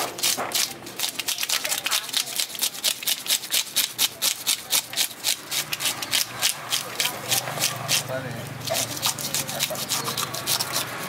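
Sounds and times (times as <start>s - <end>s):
fish scaler scraping scales: 0.0s - 11.0s.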